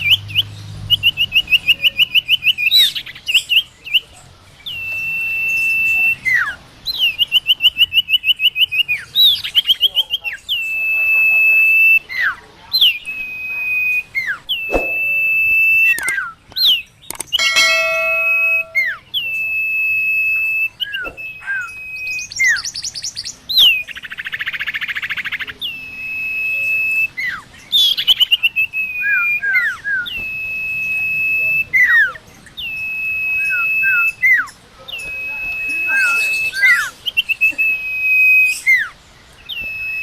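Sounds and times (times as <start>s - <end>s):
bird whistling call: 0.0s - 40.0s.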